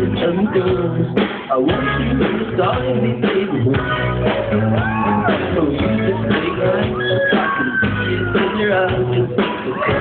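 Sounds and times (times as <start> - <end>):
person singing: 0.0 - 10.0
rock band playing: 0.0 - 10.0.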